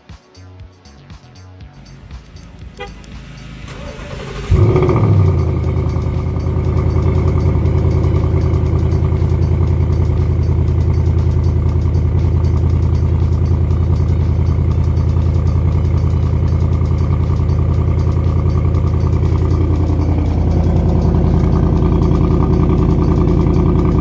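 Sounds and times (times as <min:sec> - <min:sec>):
car engine idling: 0:01.8 - 0:24.0
car starter cranking: 0:01.8 - 0:24.0.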